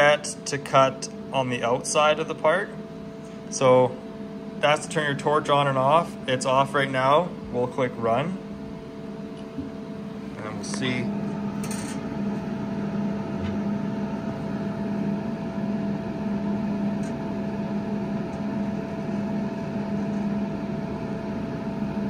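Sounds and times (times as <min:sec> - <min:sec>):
machine hum with low drone: 0:00.0 - 0:22.0
thin constant whine: 0:00.0 - 0:22.0.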